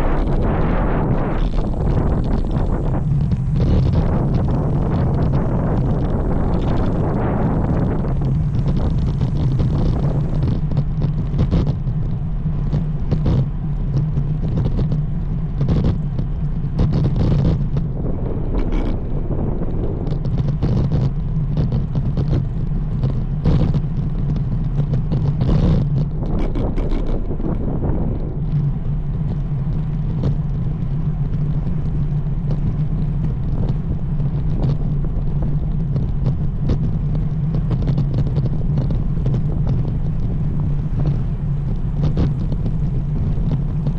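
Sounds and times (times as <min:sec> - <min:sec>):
road rumble: 0:00.0 - 0:43.9
steady low hum: 0:00.0 - 0:43.9
wind: 0:00.0 - 0:43.9.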